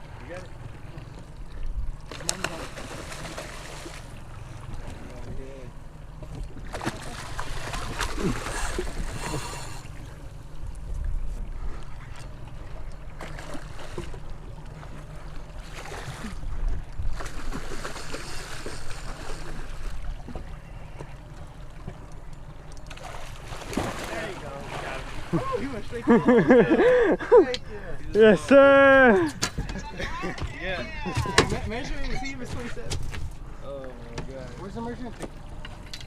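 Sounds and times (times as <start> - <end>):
boat engine low rumble: 0.0 - 36.0
water noise: 0.0 - 36.0
wind: 0.0 - 36.0.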